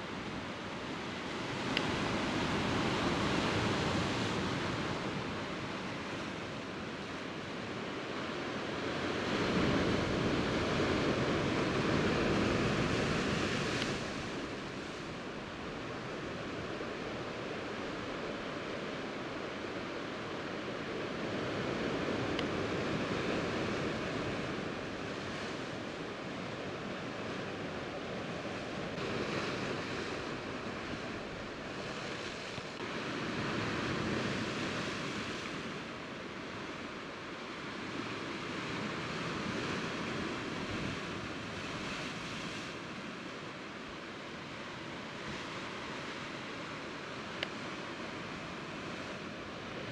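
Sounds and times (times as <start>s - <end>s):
surf washing over rocks: 0.0s - 49.9s.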